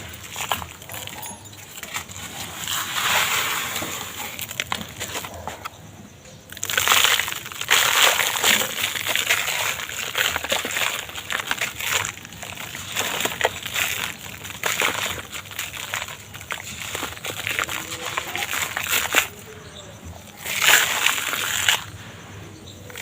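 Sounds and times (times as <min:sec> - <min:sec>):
dry material crumbling and crunching: 0:00.0 - 0:23.0.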